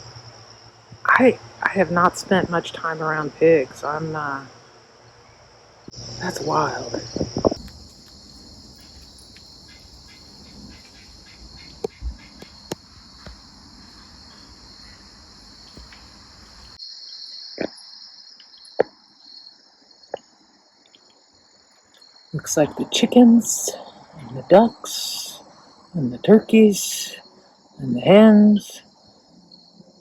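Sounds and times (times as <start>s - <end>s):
low background noise: 0.0s - 16.8s, 20.6s - 30.0s
crickets trilling: 0.0s - 30.0s.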